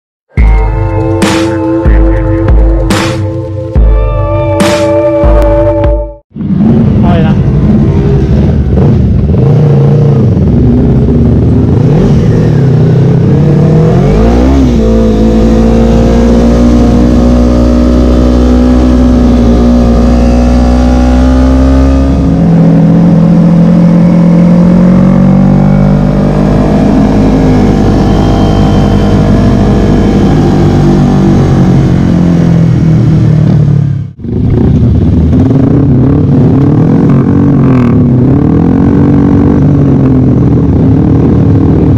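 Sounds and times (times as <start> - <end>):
motorcycle engine revving: 0.4 - 41.9.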